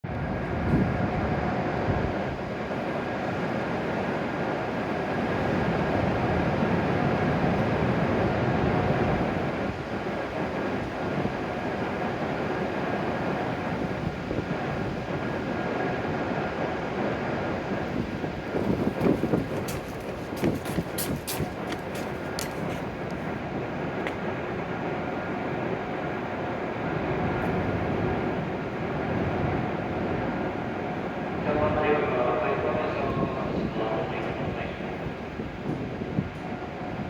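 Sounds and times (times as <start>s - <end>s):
train noise at station: 0.1s - 37.0s.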